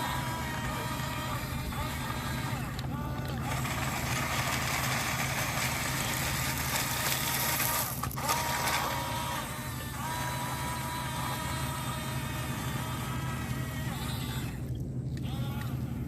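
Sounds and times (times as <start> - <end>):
small electric motors whining: 0.0 - 16.0
steady low hum: 0.0 - 16.0.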